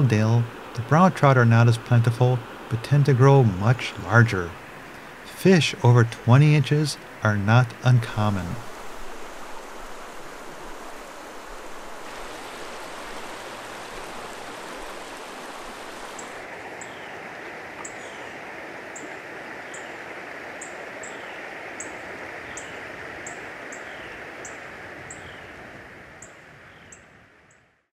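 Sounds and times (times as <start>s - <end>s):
river water rushing: 0.0s - 26.6s.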